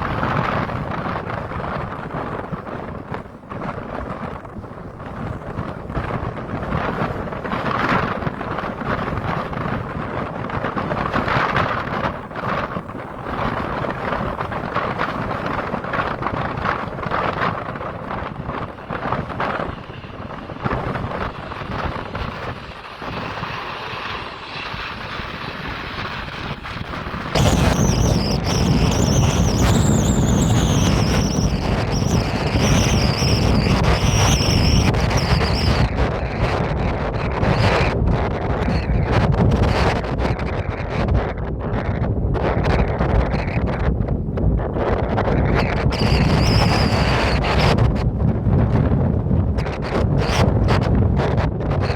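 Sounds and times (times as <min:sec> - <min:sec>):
gusty wind buffeting microphone: 0:00.0 - 0:51.9
jet engine rumble and whine: 0:00.0 - 0:51.9.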